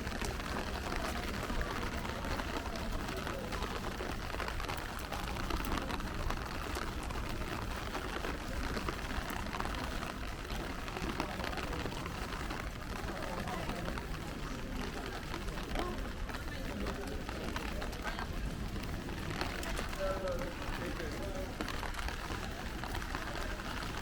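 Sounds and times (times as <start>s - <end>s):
urban traffic rumble: 0.0s - 24.0s
rain drip ticks: 0.1s - 24.0s.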